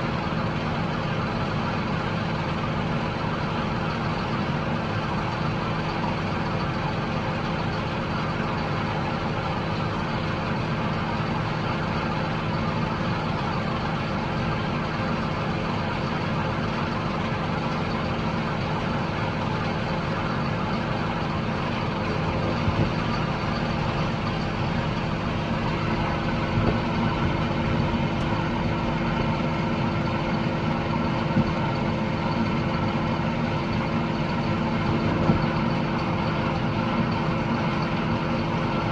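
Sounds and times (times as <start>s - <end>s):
harvest machinery engine drone: 0.0s - 38.9s.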